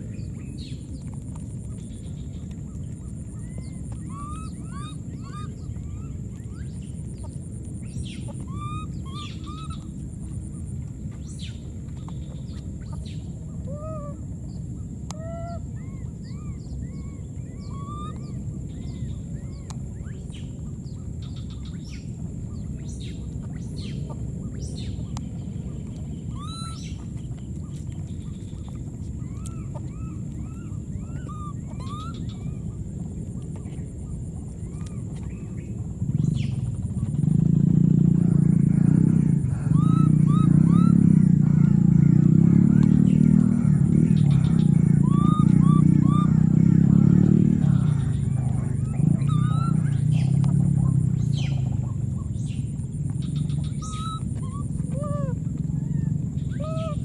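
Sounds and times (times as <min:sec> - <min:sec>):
low rumbling background: 0:00.0 - 0:57.0
chirping animal calls: 0:01.6 - 0:10.8, 0:11.4 - 0:57.0.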